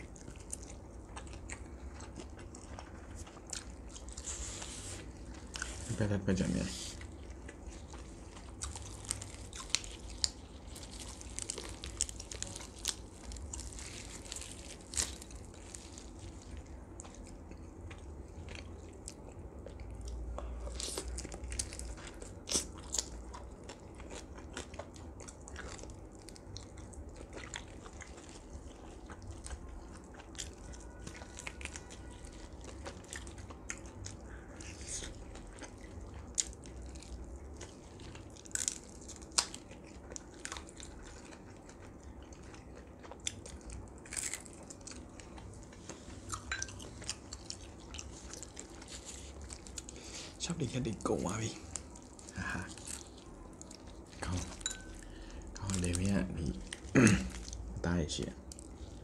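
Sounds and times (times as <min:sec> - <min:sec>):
chewing and biting meat: 0:00.0 - 0:59.0.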